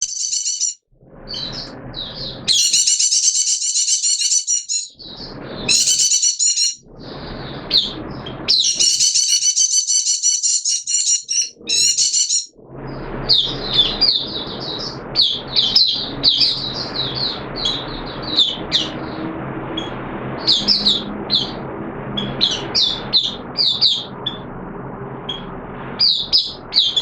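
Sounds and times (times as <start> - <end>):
bird twittering: 0.0 - 6.8, 7.6 - 12.5, 13.2 - 19.2, 19.8 - 21.6, 22.2 - 24.5, 25.3 - 27.0
bird calls: 0.0 - 12.5, 13.2 - 19.2, 19.8 - 21.6, 22.2 - 24.5, 25.3 - 27.0.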